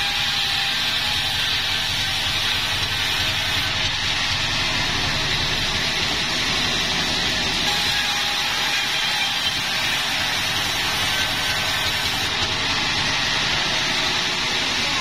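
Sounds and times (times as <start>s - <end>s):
sawmill machinery running: 0.0s - 15.0s.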